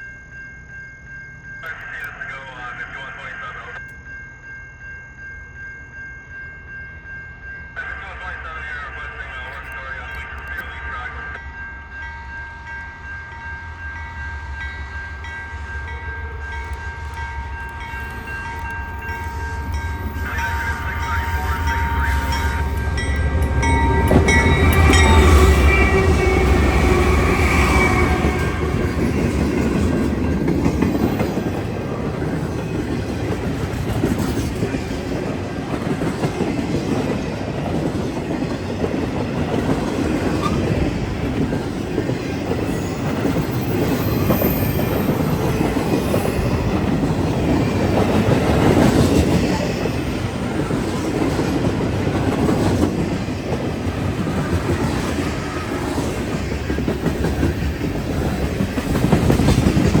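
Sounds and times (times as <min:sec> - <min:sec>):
steel wheels rumbling on rail: 0:09.2 - 1:00.0.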